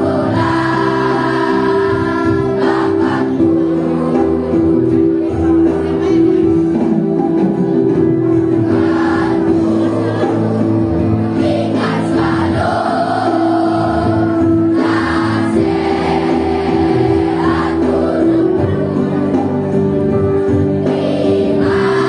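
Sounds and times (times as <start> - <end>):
children's choir singing: 0.0 - 22.0
instrumental accompaniment: 0.0 - 22.0.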